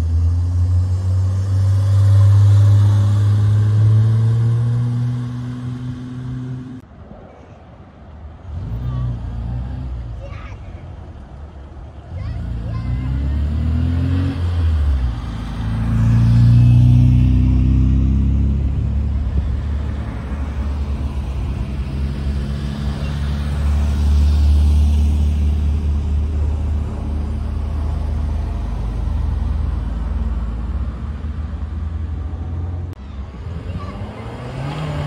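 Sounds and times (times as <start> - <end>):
car engines driving past: 0.0 - 35.0.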